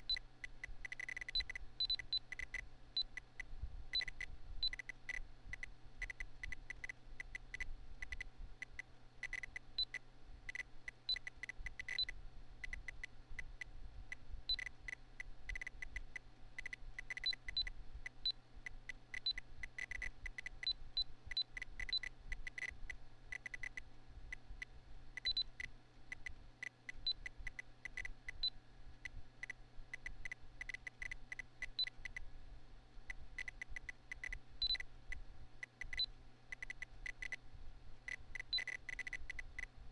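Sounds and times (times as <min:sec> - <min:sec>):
computer fan hum: 0:00.0 - 0:39.9.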